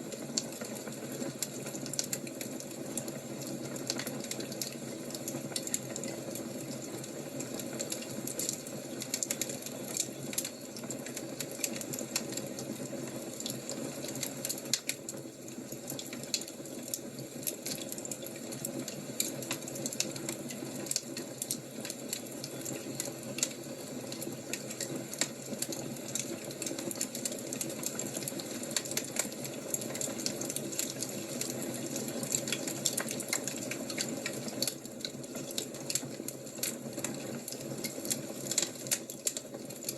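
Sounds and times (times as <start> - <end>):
fire crackling with hiss: 0.0 - 39.9.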